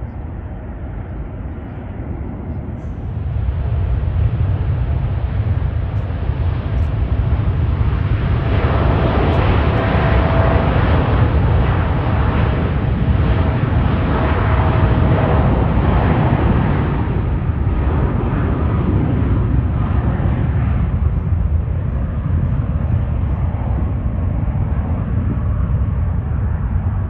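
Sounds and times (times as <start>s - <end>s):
jet airliner engines: 0.0s - 27.0s.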